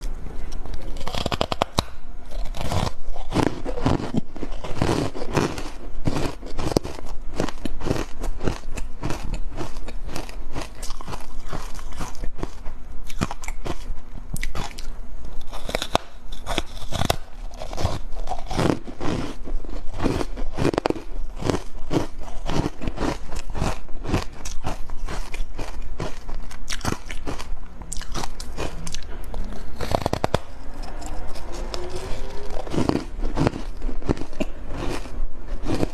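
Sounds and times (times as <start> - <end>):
ice being crunched and chewed: 0.4 - 35.9.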